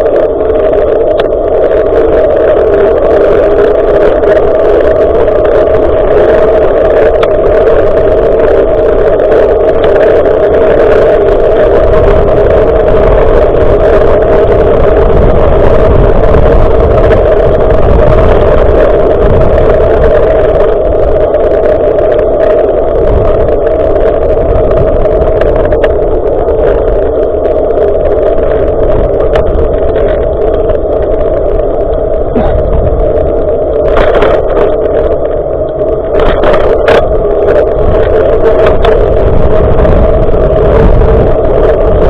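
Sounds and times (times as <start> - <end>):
mid-pitched drone: 0.0 - 42.0
wind and road noise rumble: 0.0 - 42.0.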